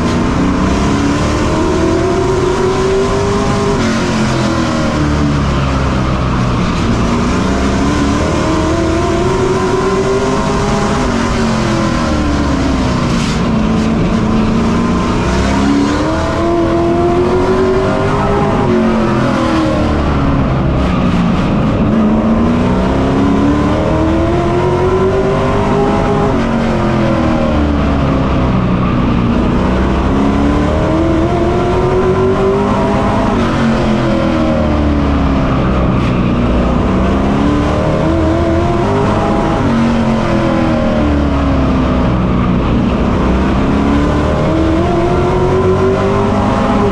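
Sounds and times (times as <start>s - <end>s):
race truck engine revving: 0.0s - 46.9s.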